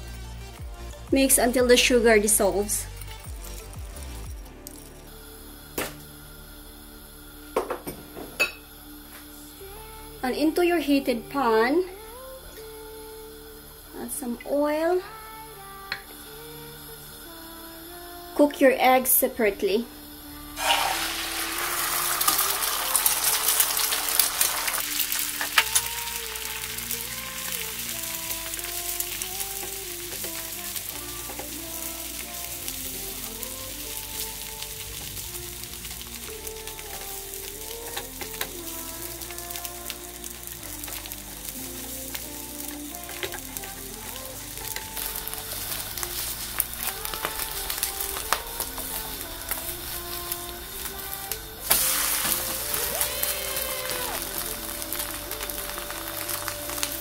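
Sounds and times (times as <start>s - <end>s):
background music: 0.0s - 57.0s
eggs sizzling in a frying pan: 0.0s - 57.0s.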